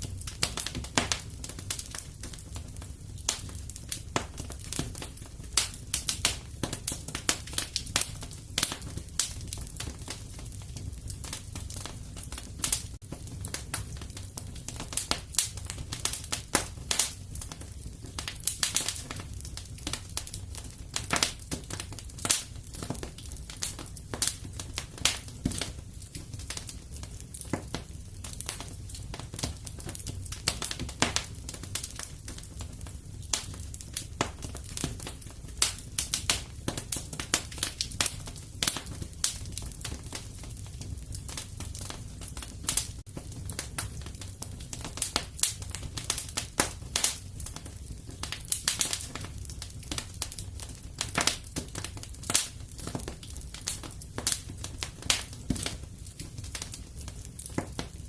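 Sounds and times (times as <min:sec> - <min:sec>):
low fire rumble: 0:00.0 - 0:58.0
wood fire crackling and popping: 0:00.0 - 0:58.0.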